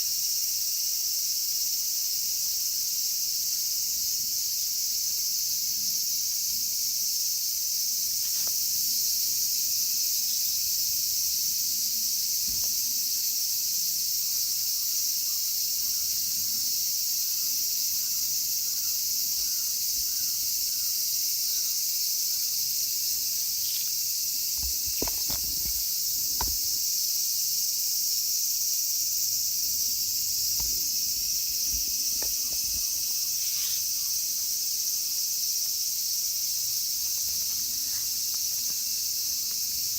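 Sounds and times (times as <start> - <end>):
cicadas chorus: 0.0 - 39.9.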